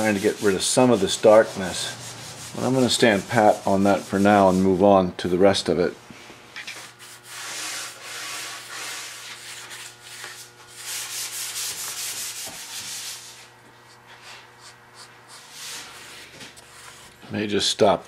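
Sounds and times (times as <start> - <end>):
rag rubbing on wood: 0.0 - 4.9, 6.8 - 17.2.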